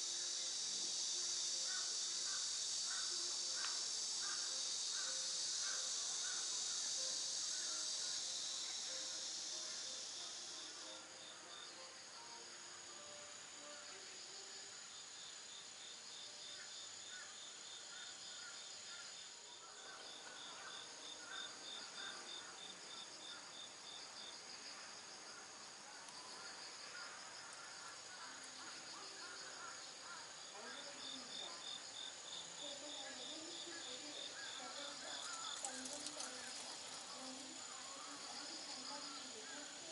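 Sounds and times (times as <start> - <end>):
insect pulsing chirp: 0.0 - 39.9
insect trilling: 0.0 - 39.9.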